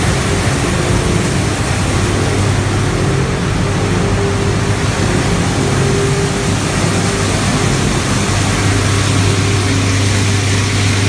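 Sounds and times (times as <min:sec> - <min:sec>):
loud machinery running: 0:00.0 - 0:11.0
low hum: 0:00.0 - 0:11.0.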